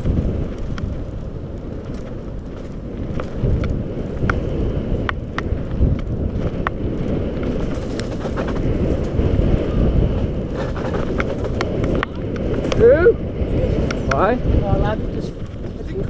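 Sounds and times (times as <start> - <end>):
bike clicks and rattles: 0.0 - 13.0
bike tyres rumbling over dirt: 0.0 - 16.0
wind buffeting microphone: 0.0 - 16.0.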